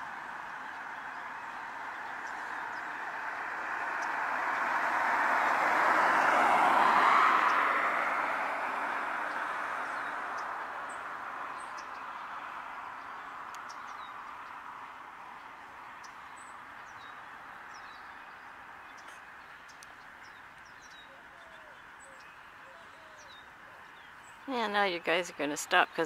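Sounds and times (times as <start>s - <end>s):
small birds chirping: 0.0s - 4.6s, 9.2s - 26.0s
vehicle passing: 0.0s - 26.0s.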